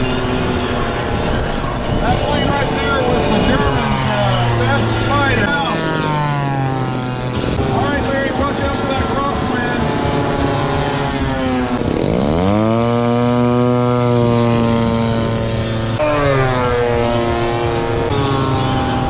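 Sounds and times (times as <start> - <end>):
model plane propeller engine: 0.0 - 19.0.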